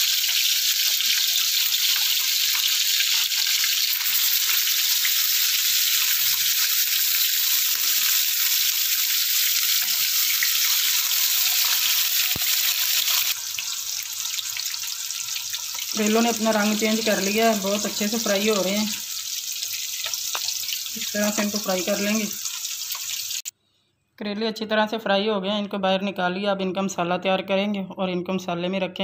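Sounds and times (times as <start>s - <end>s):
food sizzling in hot oil: 0.0s - 23.5s.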